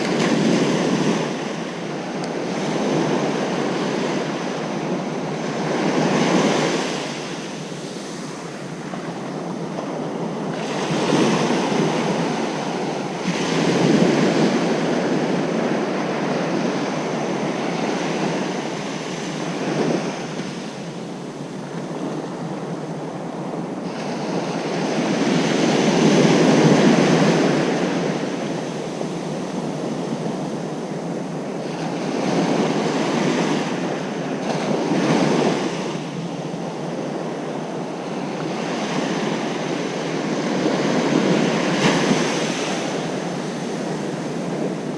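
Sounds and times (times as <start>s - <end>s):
ocean waves breaking on beach: 0.0s - 44.9s
wind on microphone: 0.0s - 44.9s.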